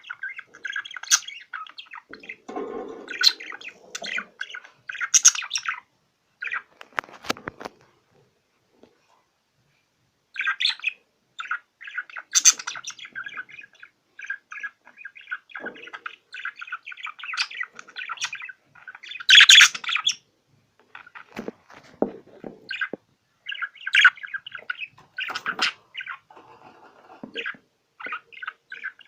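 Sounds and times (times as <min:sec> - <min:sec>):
cage birds chirping: 0:00.0 - 0:08.1, 0:10.3 - 0:29.0.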